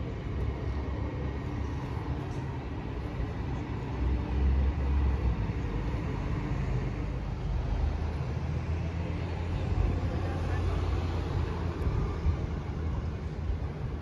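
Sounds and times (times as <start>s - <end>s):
bus driving past: 0.0s - 14.0s
road traffic rumble: 0.0s - 14.0s.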